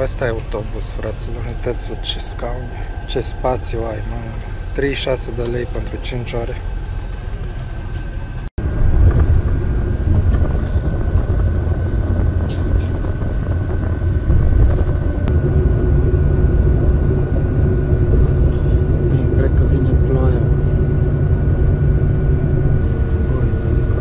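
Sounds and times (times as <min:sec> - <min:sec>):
low rumble of engine and tyres: 0:00.0 - 0:24.0
thin steady whine: 0:00.0 - 0:24.0.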